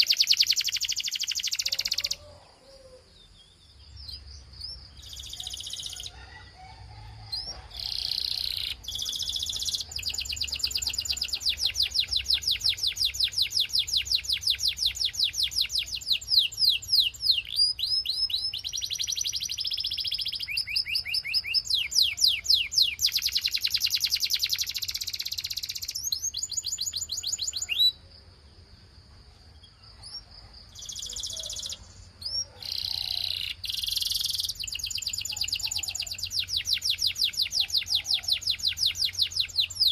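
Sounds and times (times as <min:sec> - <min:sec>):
canary singing fast trills: 0:00.0 - 0:28.6, 0:29.4 - 0:39.9.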